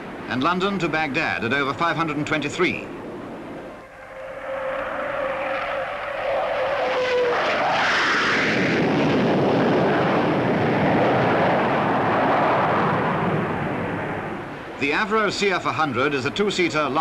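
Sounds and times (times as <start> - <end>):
jet engines flying past: 0.0 - 17.0.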